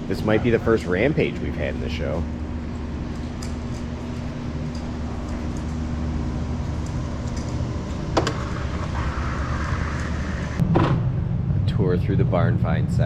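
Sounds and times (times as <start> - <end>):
ventilation hum and rumble: 0.0 - 13.0.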